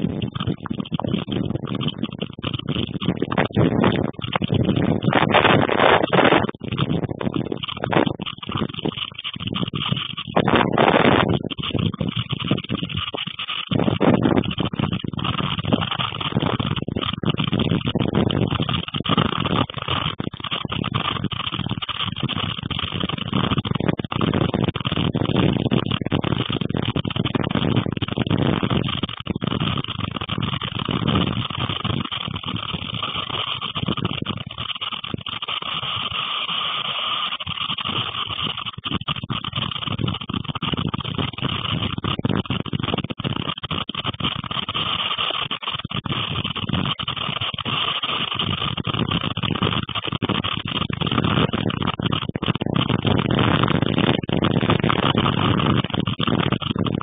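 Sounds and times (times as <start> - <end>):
rain beating on a window: 0.0 - 57.0
storm wind: 0.0 - 57.0.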